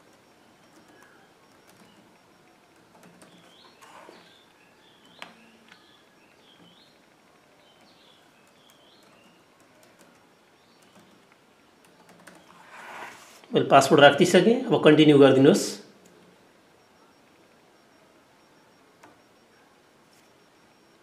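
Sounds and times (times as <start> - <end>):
faint bird chirps: 0.0 - 13.3, 16.3 - 21.0.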